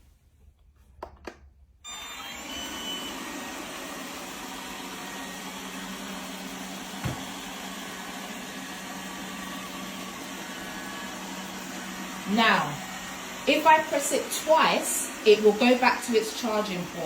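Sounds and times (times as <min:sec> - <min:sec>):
robot vacuum motor humming: 0:01.9 - 0:17.0.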